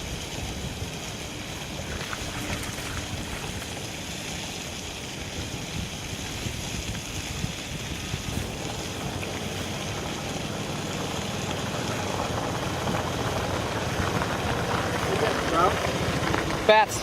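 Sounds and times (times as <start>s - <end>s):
wind on microphone: 0.0s - 16.6s.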